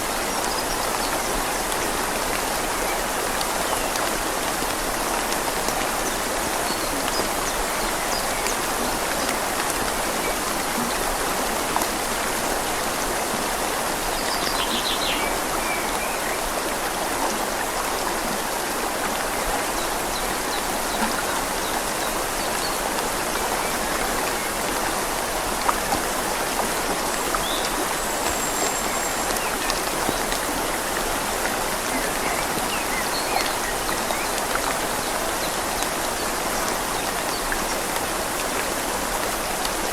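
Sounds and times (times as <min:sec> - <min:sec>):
rain falling on leaves: 0:00.0 - 0:39.9
river flowing: 0:00.0 - 0:39.9.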